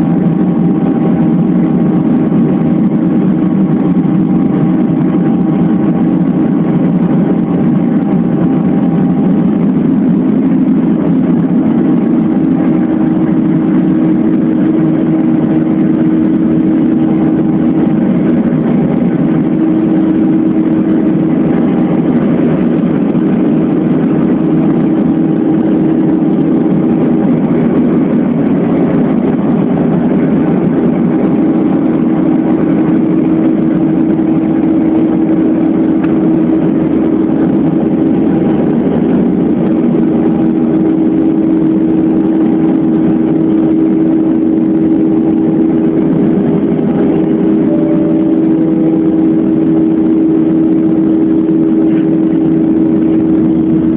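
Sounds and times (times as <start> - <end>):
jet airliner cabin drone: 0.0 - 53.9.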